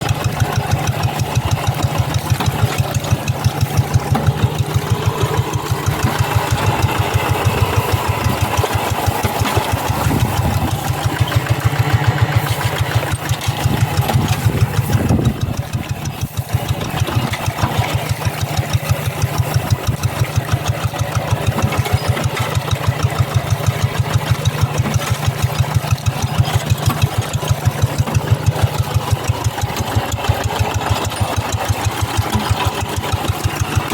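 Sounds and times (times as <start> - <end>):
diesel engine chugging: 0.0 - 33.9.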